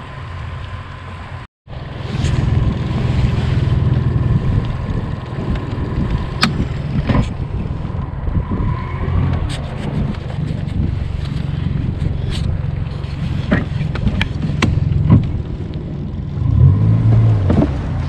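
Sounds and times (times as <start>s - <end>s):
boat motor running: 0.0s - 8.3s, 9.4s - 18.0s
wind on microphone: 2.0s - 18.0s.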